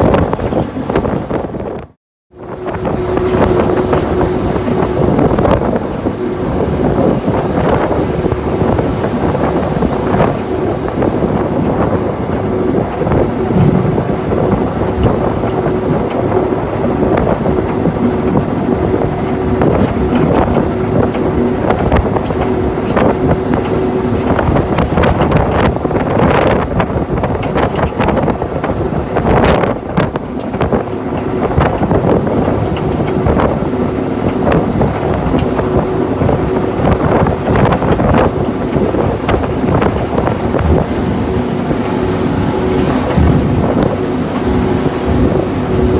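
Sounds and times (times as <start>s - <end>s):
wind buffeting microphone: 0.0s - 45.9s
diesel locomotive engine droning: 2.3s - 26.0s, 26.6s - 45.9s
knocks and rattles from wheels: 3.0s - 45.9s.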